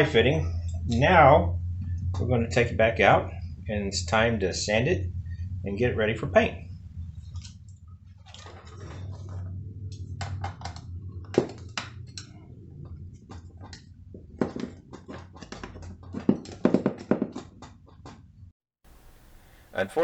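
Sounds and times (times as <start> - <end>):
low steady hum: 0.0 - 16.0, 18.9 - 20.0.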